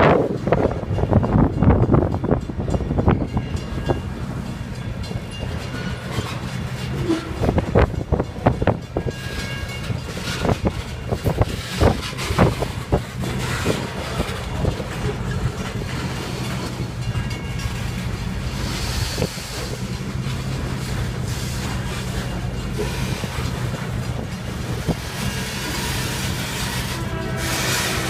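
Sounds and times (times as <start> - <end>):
train rumble: 0.0 - 28.0
wheels clacking over rails: 0.1 - 28.0.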